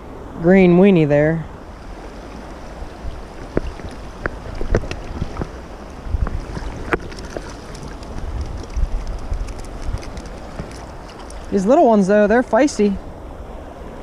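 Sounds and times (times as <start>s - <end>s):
stream water running: 0.0s - 14.0s
wind buffeting microphone: 0.0s - 14.0s.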